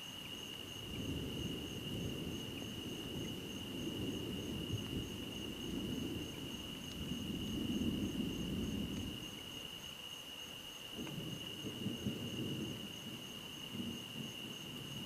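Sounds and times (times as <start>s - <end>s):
insects trilling: 0.0s - 15.0s
distant thunder rumble: 0.6s - 9.6s, 10.9s - 15.0s.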